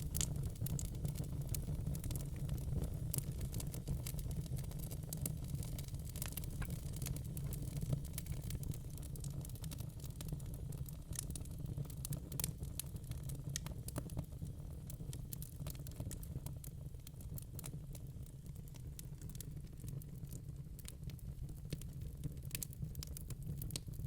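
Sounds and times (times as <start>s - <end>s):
logs crackling in fireplace: 0.0s - 24.0s.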